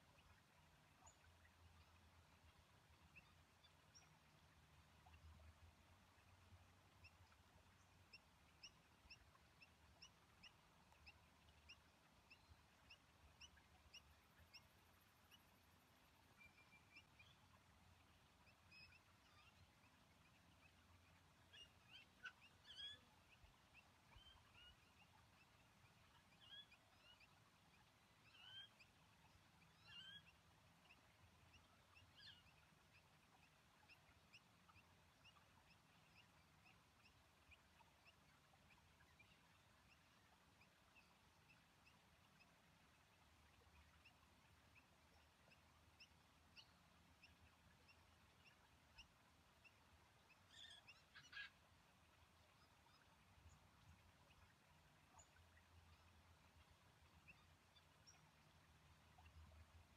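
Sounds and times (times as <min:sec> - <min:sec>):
faint bird chirps: 0:00.0 - 0:59.9.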